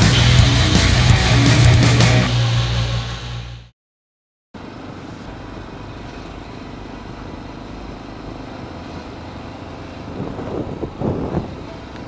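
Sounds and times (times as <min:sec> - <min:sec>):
road noise: 0:00.0 - 0:03.7, 0:04.6 - 0:12.0.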